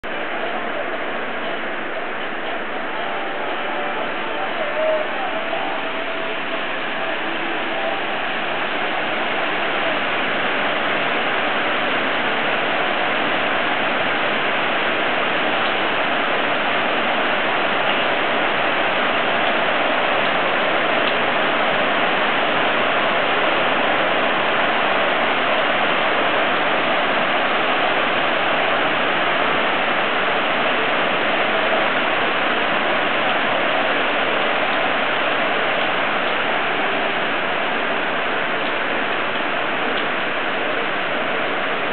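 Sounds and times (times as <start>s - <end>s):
heavy rain on tiles: 0.0s - 41.9s.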